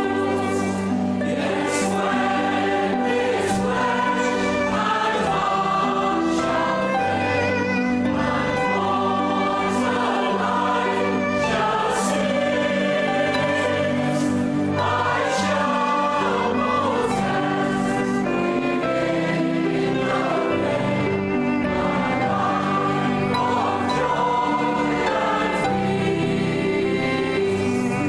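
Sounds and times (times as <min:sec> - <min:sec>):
group of people singing: 0:00.0 - 0:28.0.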